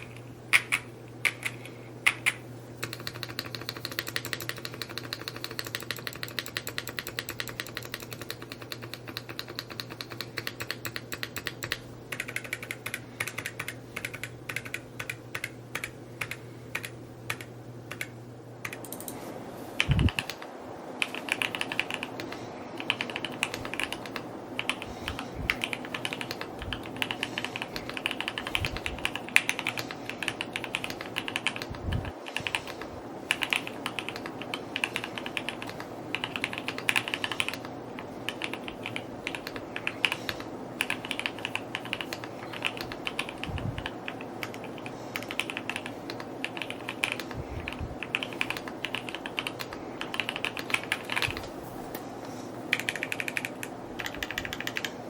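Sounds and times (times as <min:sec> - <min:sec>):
mechanical keyboard typing: 0:00.0 - 0:19.2, 0:19.8 - 0:51.6, 0:52.7 - 0:55.0.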